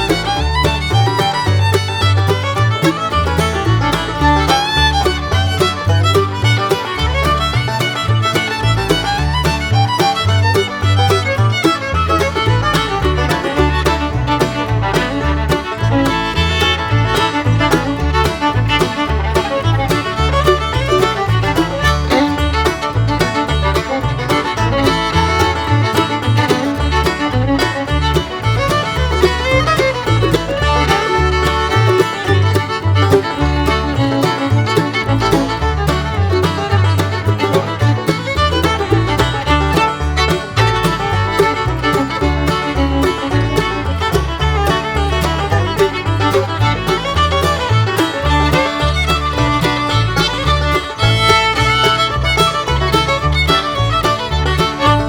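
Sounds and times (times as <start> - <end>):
upbeat fiddle and banjo music: 0.0 - 55.0.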